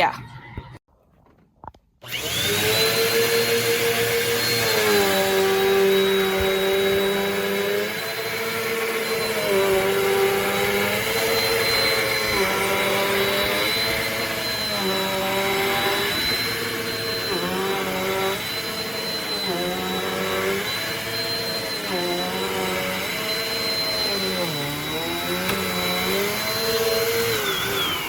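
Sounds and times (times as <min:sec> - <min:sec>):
vacuum cleaner motor whining: 0:02.0 - 0:28.0.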